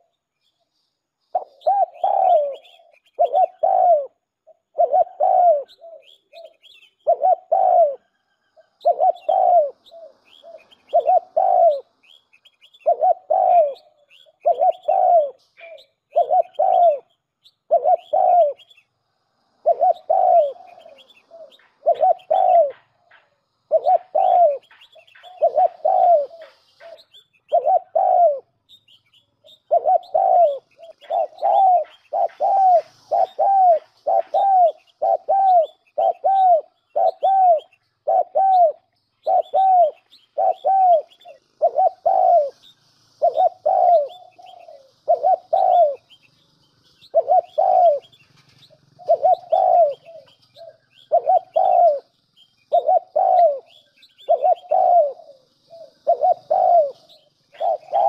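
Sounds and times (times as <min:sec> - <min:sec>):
pigeon cooing: 0:01.4 - 0:12.0, 0:12.8 - 0:17.1, 0:17.7 - 0:18.7, 0:19.6 - 0:28.6, 0:29.4 - 0:46.2, 0:47.0 - 0:52.1, 0:52.7 - 0:58.0.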